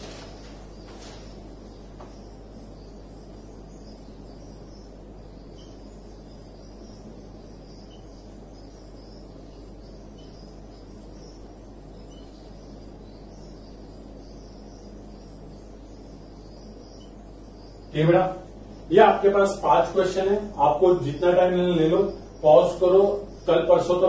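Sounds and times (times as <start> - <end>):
faint high-pitched chirping: 0.0 - 24.0
low hum: 0.0 - 24.0.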